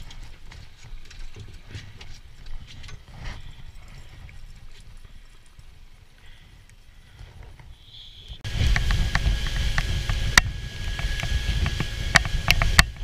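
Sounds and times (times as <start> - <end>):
low rumble of wind: 0.0 - 13.0
water: 0.0 - 13.0.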